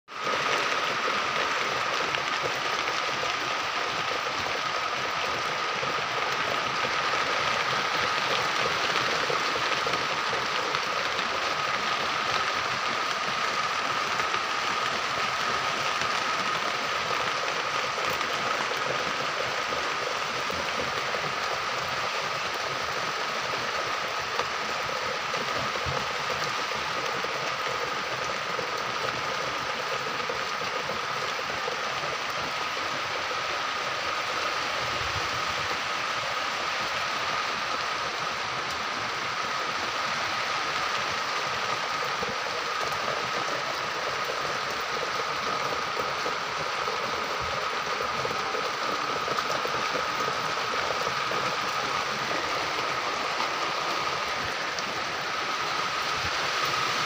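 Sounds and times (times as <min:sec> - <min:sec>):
rain on leaves and hard surfaces: 0:00.1 - 0:57.0.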